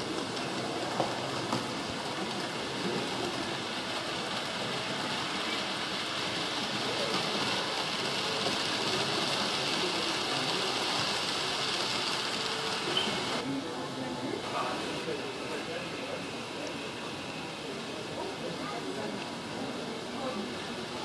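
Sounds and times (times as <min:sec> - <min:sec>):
model train rolling on track: 0:00.0 - 0:21.0.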